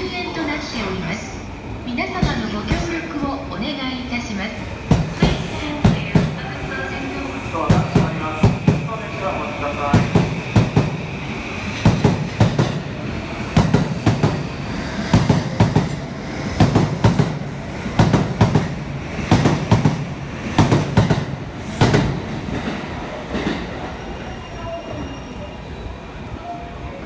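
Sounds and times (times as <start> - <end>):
electric train rumbling past: 0.0 - 27.0.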